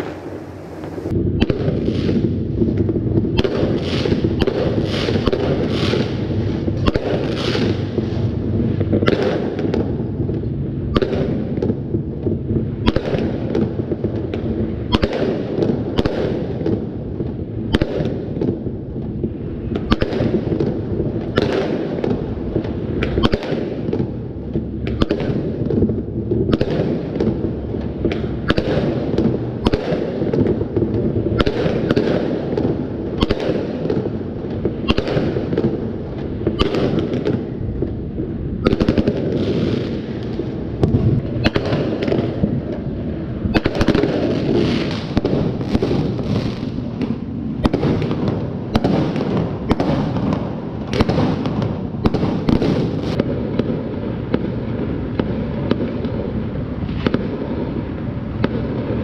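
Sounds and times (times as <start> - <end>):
sharp firecracker cracks: 0.0 - 8.0, 8.7 - 11.8, 12.8 - 16.8, 17.7 - 18.6, 19.7 - 38.0, 38.6 - 57.4
low rumble of fireworks bangs: 0.0 - 59.0.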